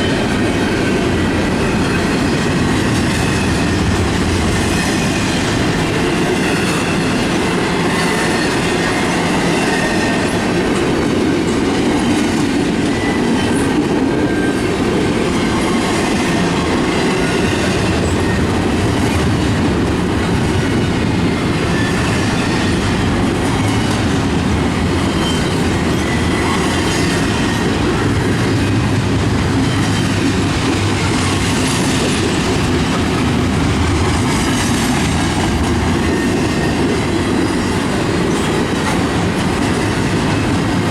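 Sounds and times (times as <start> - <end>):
clickety-clack over rail joints: 0.0 - 40.9
freight train wheels rumbling on rail: 0.0 - 40.9.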